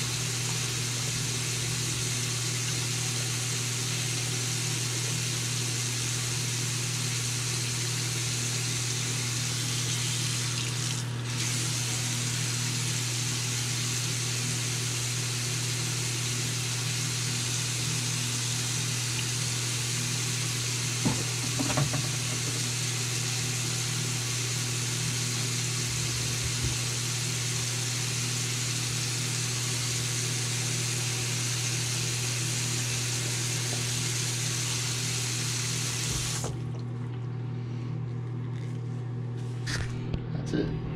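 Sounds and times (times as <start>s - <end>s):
faucet running into sink: 0.0s - 36.8s.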